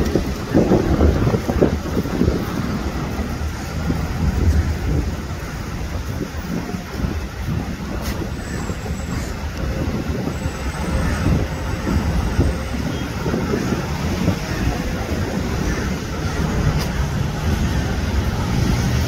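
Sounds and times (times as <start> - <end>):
cars and trucks driving past: 0.0 - 19.0.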